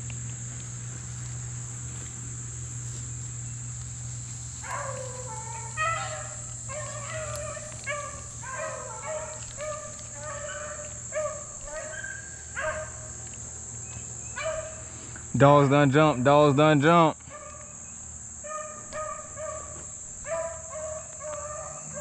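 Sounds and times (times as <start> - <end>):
beagles baying: 0.0 - 22.0
high insect drone: 0.0 - 22.0.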